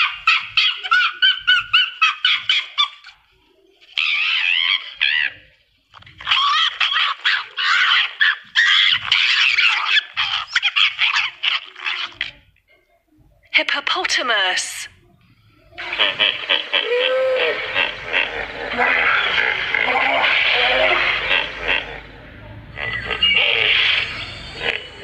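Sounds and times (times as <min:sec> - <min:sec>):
fox wavering cry: 0:00.0 - 0:03.2, 0:03.9 - 0:05.5, 0:06.2 - 0:12.4, 0:15.8 - 0:25.0
fox yelping: 0:00.0 - 0:03.3, 0:03.9 - 0:05.5, 0:06.2 - 0:12.4, 0:15.8 - 0:25.0.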